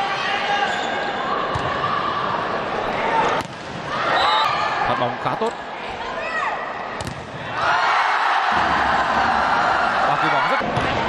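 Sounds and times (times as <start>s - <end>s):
arena crowd noise: 0.0s - 11.0s.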